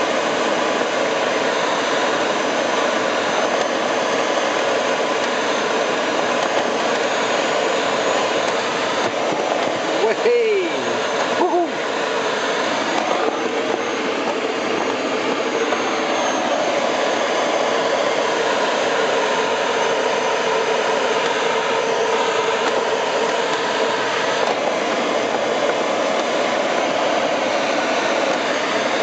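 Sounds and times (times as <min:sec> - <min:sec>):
air rushing over glider: 0:00.0 - 0:29.0.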